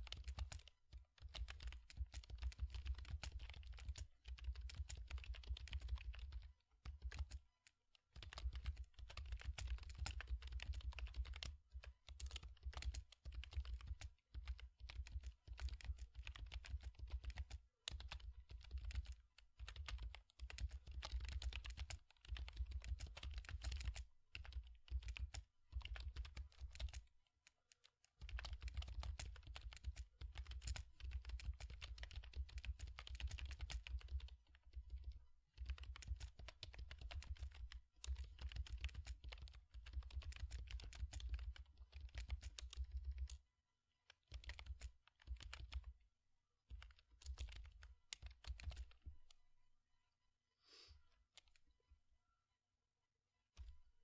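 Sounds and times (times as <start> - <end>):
computer keyboard typing: 0.0 - 7.4, 8.0 - 43.4, 44.1 - 45.9, 46.7 - 49.4, 51.3 - 51.6, 53.6 - 53.8.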